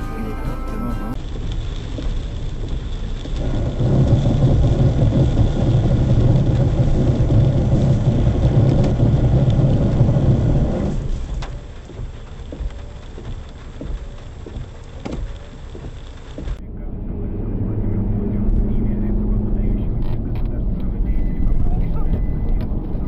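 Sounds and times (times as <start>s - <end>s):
vehicle rumble on wet road: 0.0s - 23.0s.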